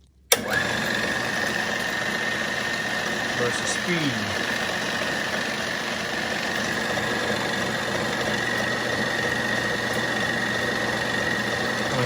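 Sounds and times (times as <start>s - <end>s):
film projector running: 0.3s - 12.0s.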